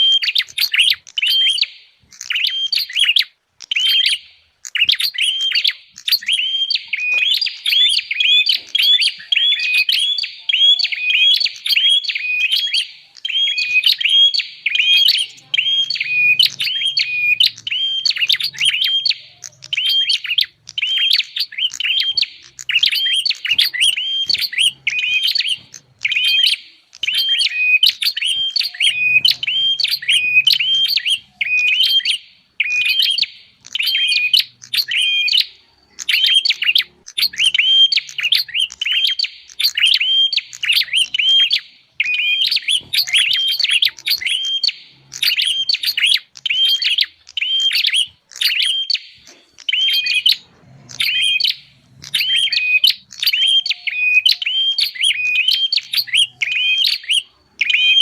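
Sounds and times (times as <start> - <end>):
sharp high bird chirps: 0.0 - 58.0.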